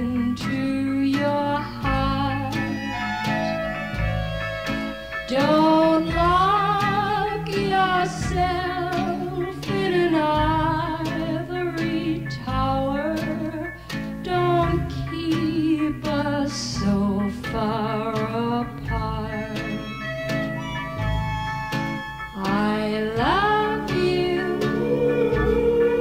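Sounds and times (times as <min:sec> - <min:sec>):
woman singing with vibrato: 0:00.0 - 0:03.0, 0:05.3 - 0:19.8, 0:22.4 - 0:26.0
orchestral backing with guitar: 0:00.0 - 0:26.0.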